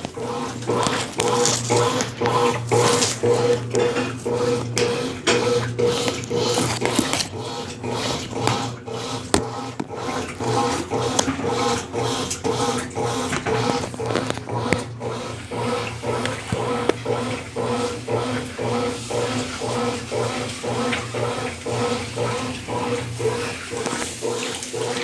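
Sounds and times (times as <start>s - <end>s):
washing machine churning: 0.0s - 25.0s.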